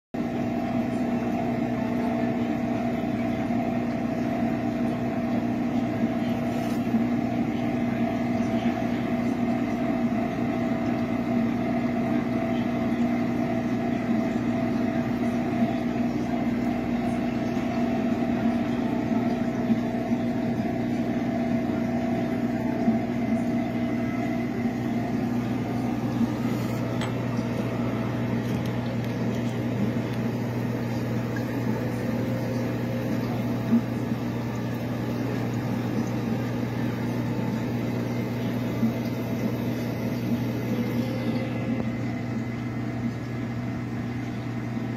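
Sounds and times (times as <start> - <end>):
aquarium pumps humming: 0.2 - 44.9.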